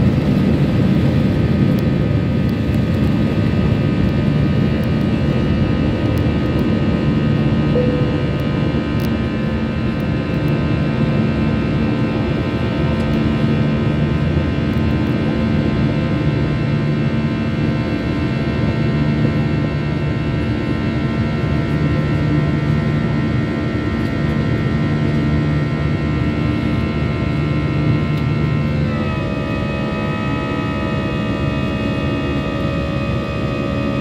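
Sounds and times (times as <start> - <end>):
steady engine tones: 0.0 - 34.0.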